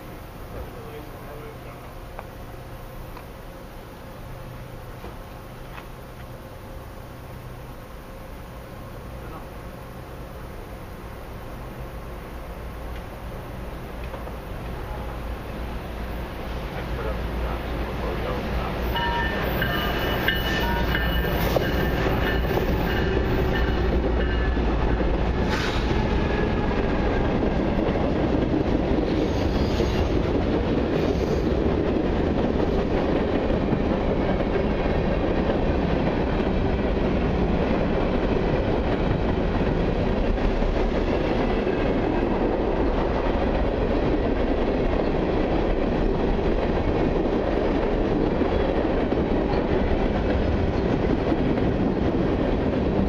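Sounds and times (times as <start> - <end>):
diesel locomotives passing: 0.0 - 53.0
rumble of train wheels on rails: 0.0 - 53.0.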